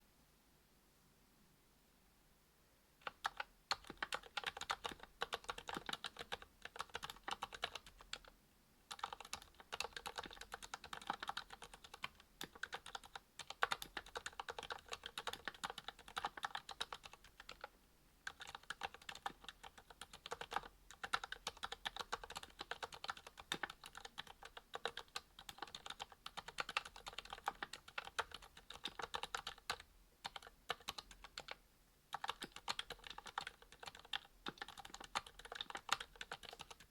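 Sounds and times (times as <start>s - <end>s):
typing on mechanical keyboard: 3.0s - 8.3s, 8.9s - 36.9s.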